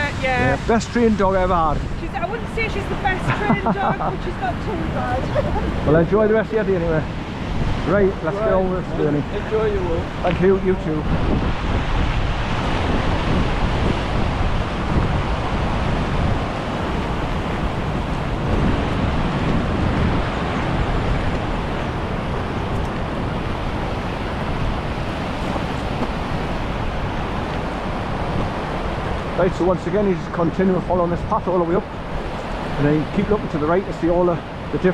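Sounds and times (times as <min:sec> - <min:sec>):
river rushing over rocks: 0:00.0 - 0:34.9
wind buffeting microphone: 0:00.0 - 0:34.9.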